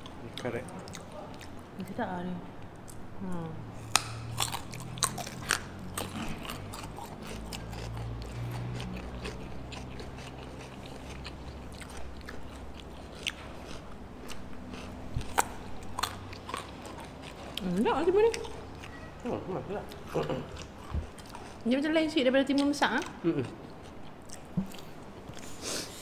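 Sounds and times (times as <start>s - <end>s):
cucumber crunching and chewing: 3.8s - 21.7s, 22.5s - 25.6s.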